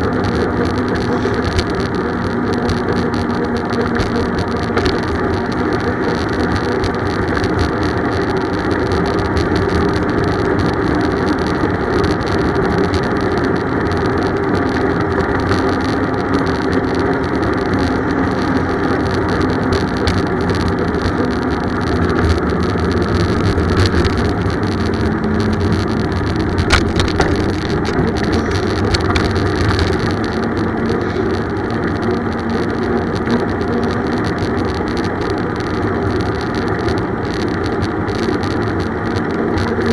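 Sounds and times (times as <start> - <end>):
rushing noise of bicycle ride: 0.0 - 39.9.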